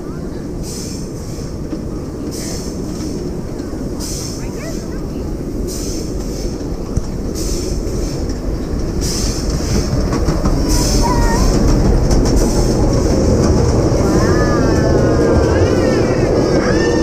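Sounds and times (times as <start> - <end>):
train wheels rumbling and clattering: 0.0 - 17.0.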